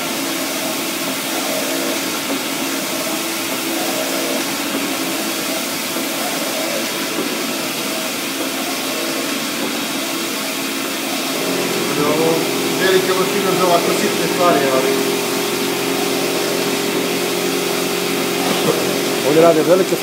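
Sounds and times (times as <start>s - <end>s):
printer carriage whirring: 0.0s - 20.0s.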